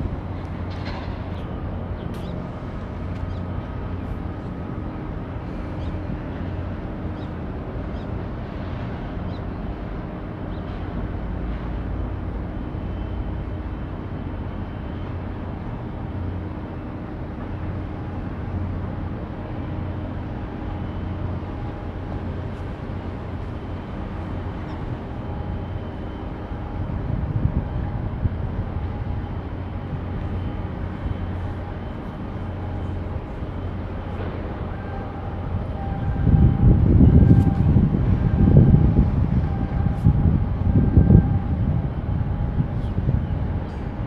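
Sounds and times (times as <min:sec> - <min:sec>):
low harbour rumble: 0:00.0 - 0:44.0.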